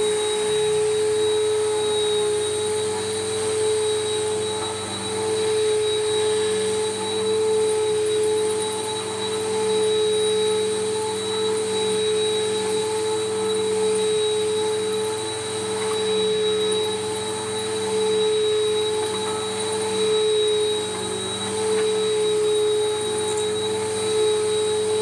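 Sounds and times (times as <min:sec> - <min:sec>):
upright vacuum cleaner running: 0:00.0 - 0:25.0.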